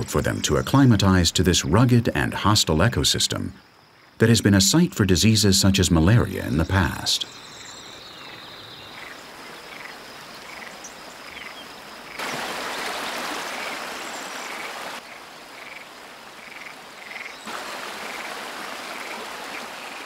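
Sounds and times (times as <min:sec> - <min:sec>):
frogs croaking: 0:00.0 - 0:20.0
wetland ambience hiss: 0:00.0 - 0:20.0.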